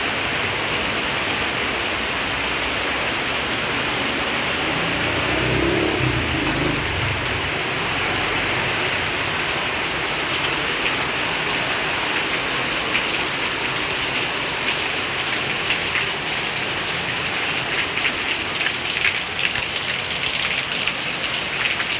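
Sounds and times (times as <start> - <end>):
steady rain hiss: 0.0 - 21.6.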